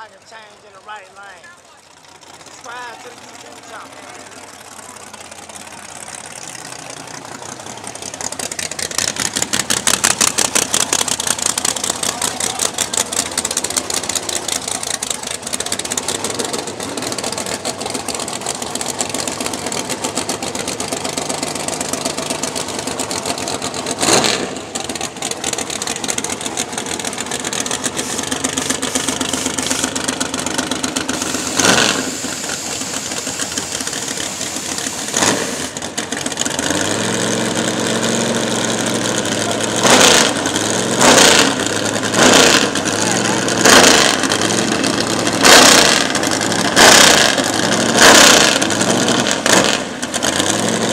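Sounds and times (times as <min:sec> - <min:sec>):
car engine choppy idle: 0:00.0 - 0:50.9.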